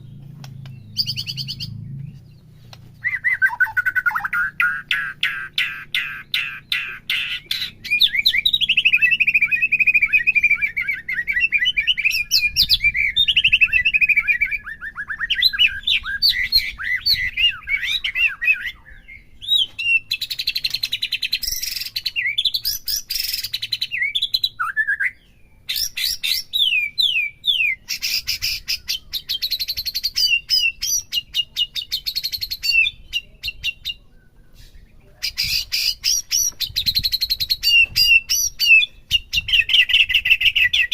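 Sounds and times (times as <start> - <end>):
bird singing whistles: 0.0 - 2.2, 3.0 - 40.9.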